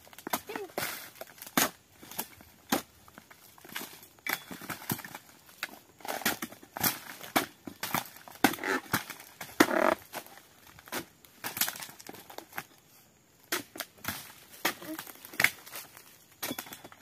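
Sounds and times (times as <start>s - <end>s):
chisel chopping palm fronds: 0.1s - 12.1s, 13.5s - 16.9s.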